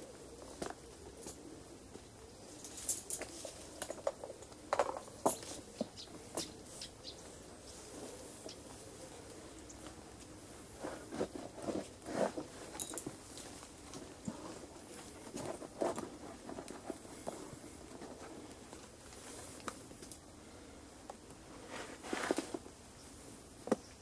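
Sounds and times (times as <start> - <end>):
rustling and scraping of twigs: 0.1 - 20.7, 21.3 - 24.0.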